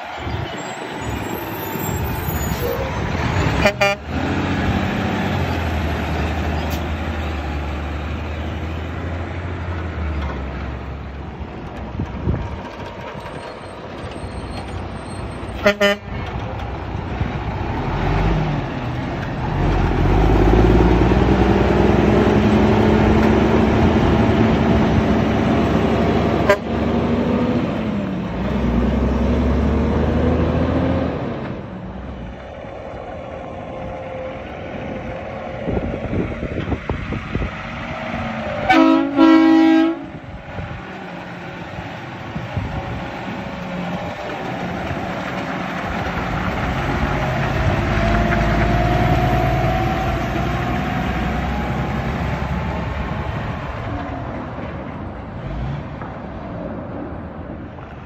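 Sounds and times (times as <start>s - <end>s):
diesel trucks driving past: 0.0s - 58.0s.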